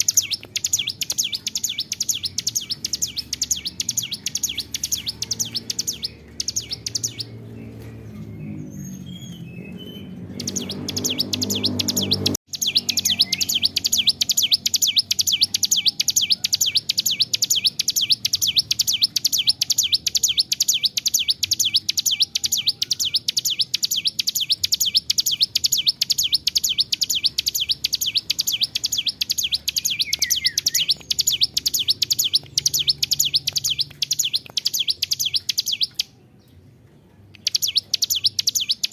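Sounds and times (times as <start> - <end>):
bird singing high repeated notes: 0.0 - 36.2, 37.4 - 38.9.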